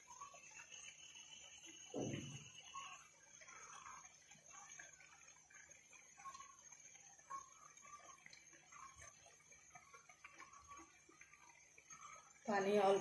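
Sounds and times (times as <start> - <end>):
pasta simmering ticking and popping: 0.0 - 13.0.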